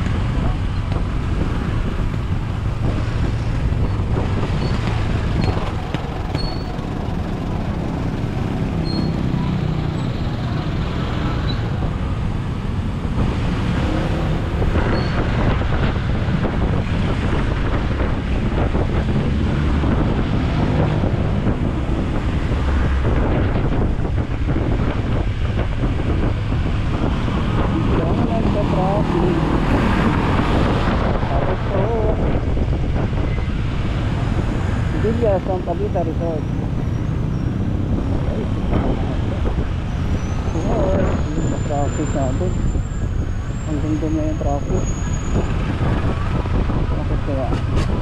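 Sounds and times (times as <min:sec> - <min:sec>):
traffic road noise: 0:00.0 - 0:48.0
wind buffeting microphone: 0:00.0 - 0:48.0.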